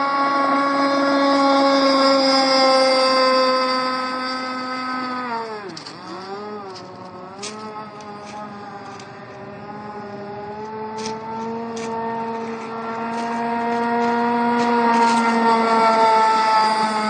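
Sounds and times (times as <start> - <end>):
model boat motor whine: 0.0 - 17.0.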